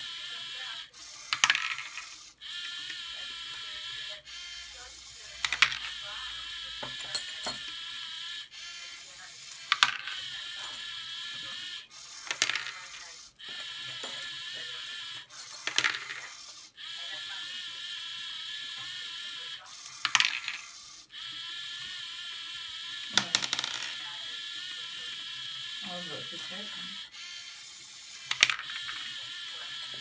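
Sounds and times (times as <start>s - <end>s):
motors and plastic gears whirring: 0.0s - 30.0s.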